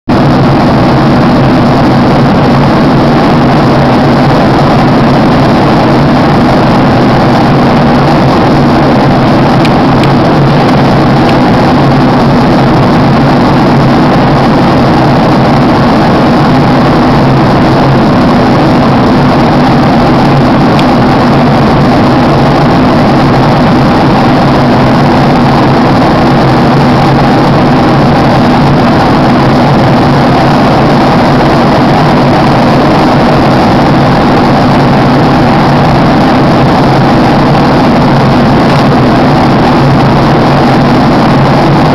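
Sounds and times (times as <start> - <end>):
airliner cabin drone: 0.0 - 41.9.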